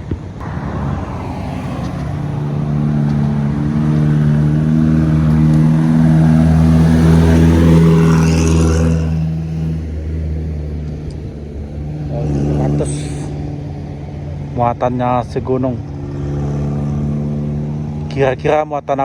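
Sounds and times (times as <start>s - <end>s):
truck diesel engine labouring: 0.0s - 19.0s.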